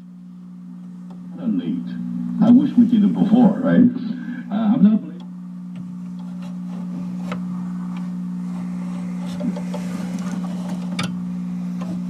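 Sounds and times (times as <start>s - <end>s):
static crackles and clicks: 0.0s - 3.6s, 4.7s - 12.0s
radio low hum: 0.0s - 12.0s.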